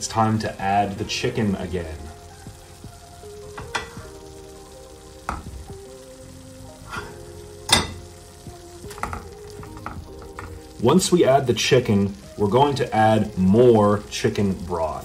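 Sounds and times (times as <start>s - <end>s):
broth bubbling and sizzling: 0.0s - 15.0s
soft background music: 0.0s - 15.0s.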